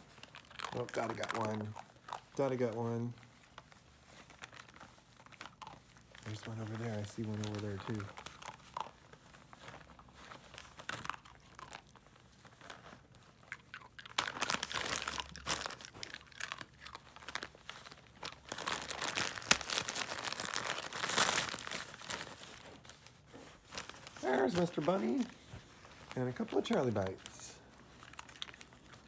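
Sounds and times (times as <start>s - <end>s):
gift wrapping crinkling and tearing: 0.0s - 29.0s.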